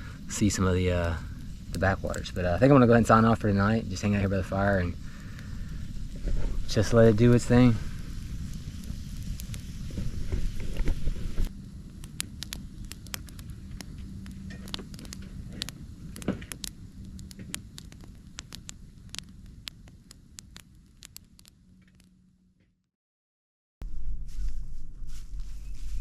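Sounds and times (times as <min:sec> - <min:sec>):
campfire crackling: 0:00.0 - 0:22.3.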